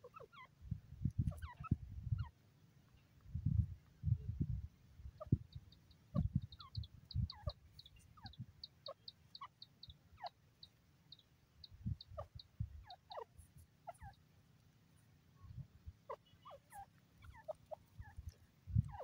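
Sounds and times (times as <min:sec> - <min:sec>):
francolin soft downward clucks: 0:00.0 - 0:04.0, 0:05.2 - 0:19.0.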